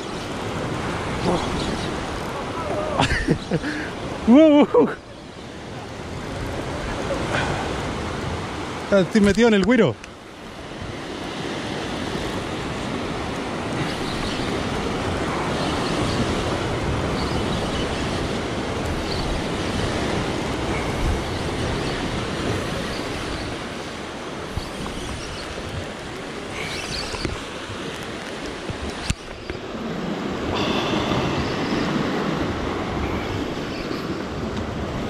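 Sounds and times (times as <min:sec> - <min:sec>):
surf washing over rocks: 0:00.0 - 0:35.0.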